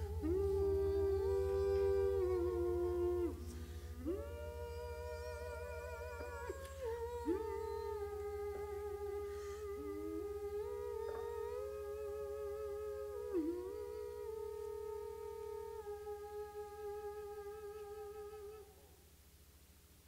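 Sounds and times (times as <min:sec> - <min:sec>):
voices humming long notes: 0:00.0 - 0:18.8
low electrical hum: 0:00.0 - 0:20.0.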